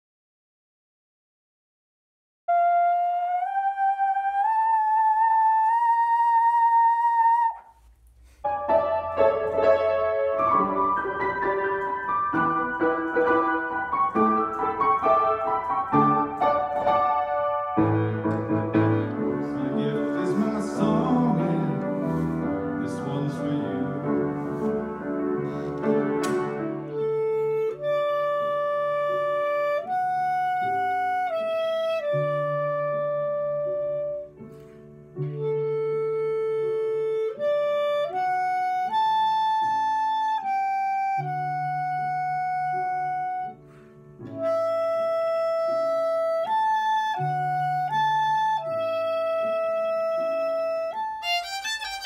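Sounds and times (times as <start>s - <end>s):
clarinet long held notes: 2.5s - 52.0s
grand piano run of notes: 8.4s - 52.0s.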